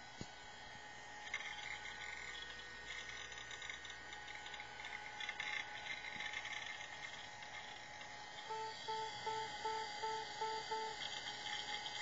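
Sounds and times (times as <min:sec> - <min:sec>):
hard drive thin whine: 0:00.0 - 0:12.0
hard drive head chatter: 0:01.1 - 0:12.0.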